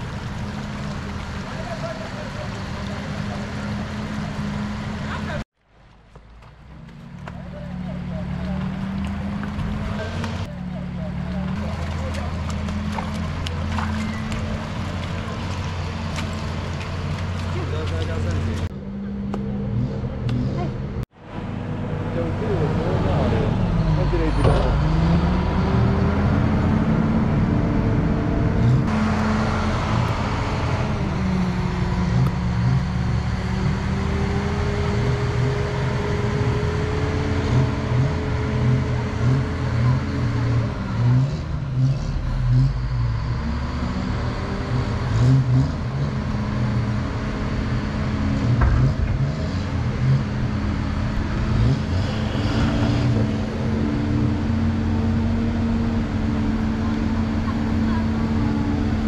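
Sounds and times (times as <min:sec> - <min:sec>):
diesel engine revving: 0:00.0 - 0:05.5, 0:06.6 - 0:59.0.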